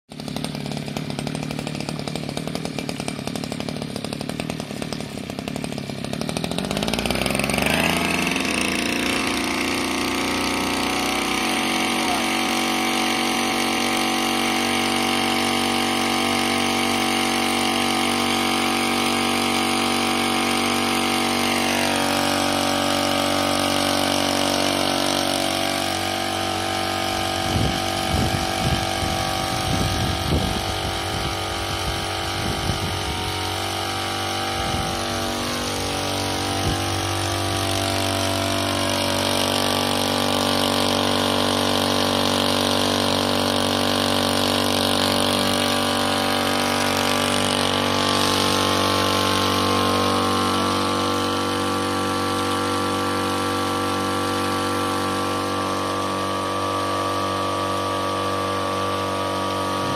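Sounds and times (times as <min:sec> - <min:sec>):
power sprayer petrol engine: 0:00.1 - 0:59.9.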